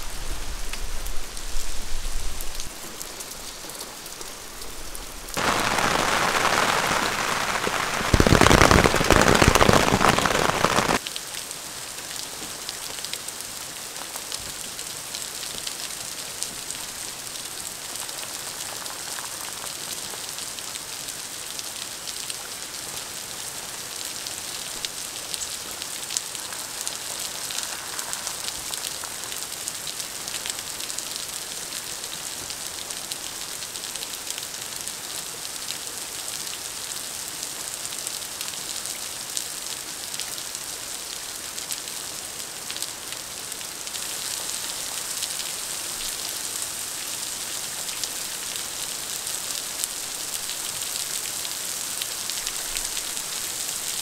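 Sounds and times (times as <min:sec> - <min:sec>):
rain on rocks and water: 0:00.0 - 0:54.0.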